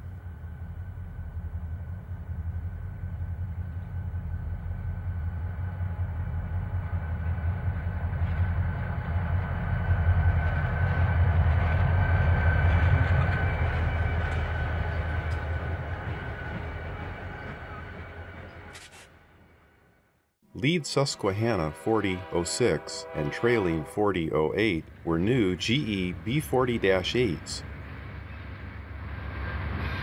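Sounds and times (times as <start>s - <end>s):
diesel locomotives rumbling past: 0.0s - 30.0s.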